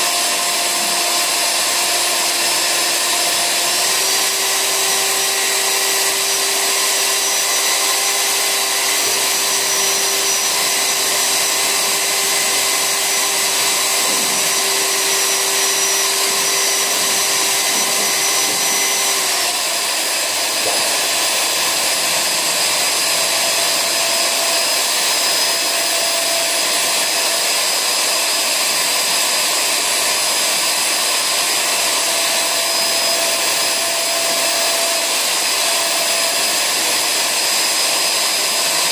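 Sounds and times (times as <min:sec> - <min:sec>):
paddle mixer motor whining: 0:00.0 - 0:38.9.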